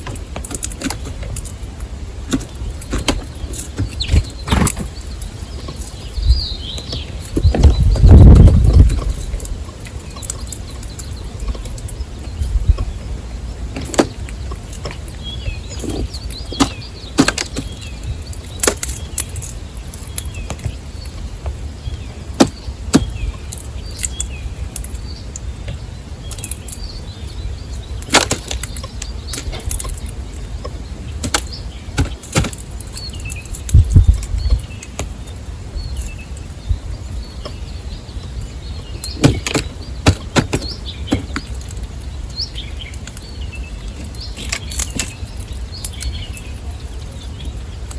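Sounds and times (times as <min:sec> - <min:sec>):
birds pecking on wooden feeder: 0:00.0 - 0:26.9, 0:27.7 - 0:36.5, 0:37.3 - 0:47.9
bird chirps: 0:00.0 - 0:47.9
steady low rumble: 0:00.0 - 0:47.9.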